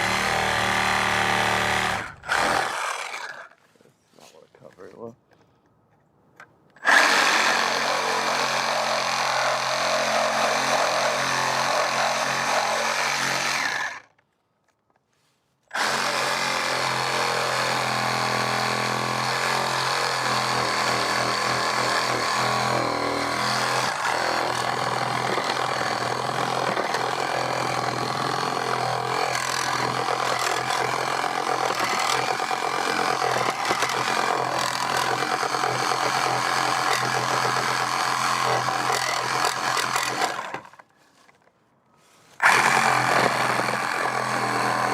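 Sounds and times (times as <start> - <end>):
power saw cutting wood: 0.0 - 3.6, 6.8 - 14.1, 15.7 - 40.9, 42.4 - 44.9.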